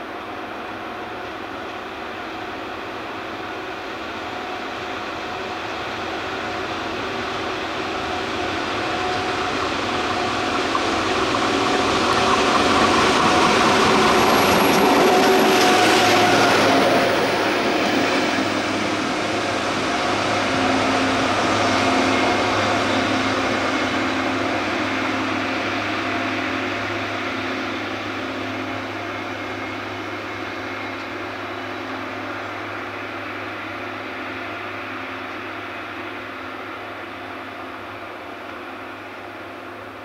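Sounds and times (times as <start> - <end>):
track machine diesel engine drone: 0.0 - 40.0.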